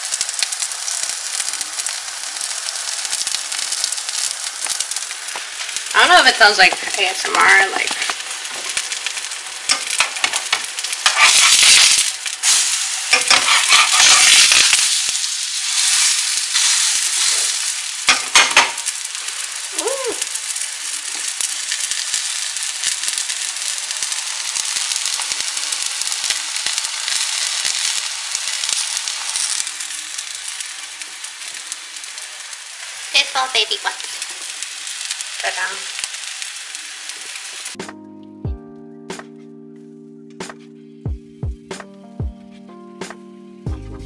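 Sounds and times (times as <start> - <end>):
batter sizzling in hot oil: 0.0 - 37.8.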